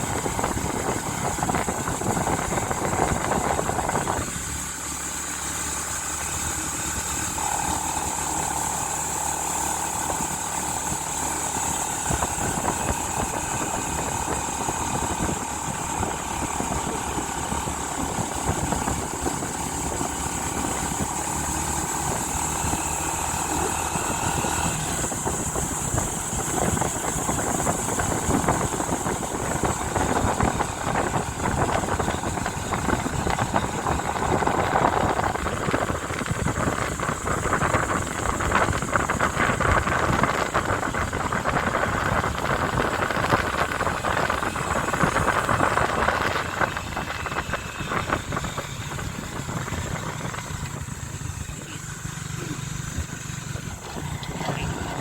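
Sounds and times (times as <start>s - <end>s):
heavy wind: 0.0s - 55.0s
motorcycle engine: 0.0s - 55.0s
rough road noise: 0.0s - 55.0s.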